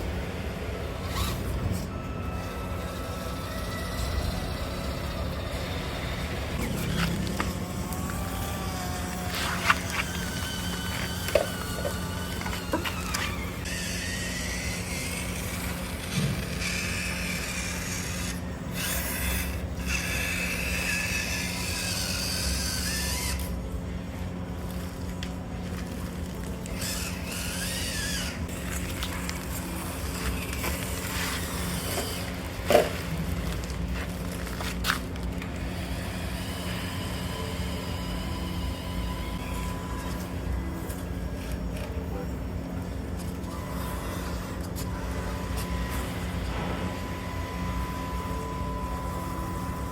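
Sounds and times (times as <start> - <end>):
small electric motors whining: 0.0 - 49.9.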